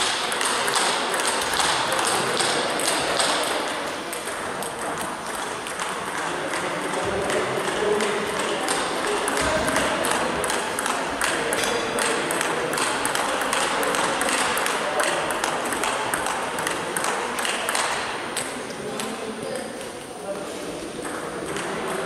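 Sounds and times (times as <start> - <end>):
table tennis balls clicking: 0.0 - 20.0, 20.8 - 22.0
murmur of voices: 0.0 - 22.0.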